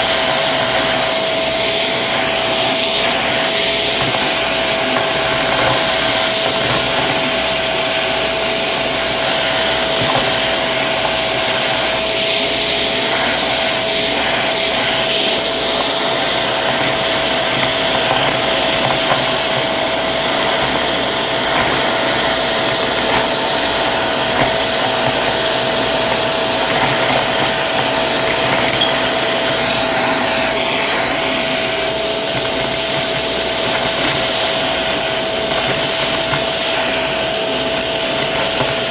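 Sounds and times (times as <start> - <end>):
debris crackling up vacuum tool: 0.0 - 38.9
vacuum cleaner motor whining: 0.0 - 38.9.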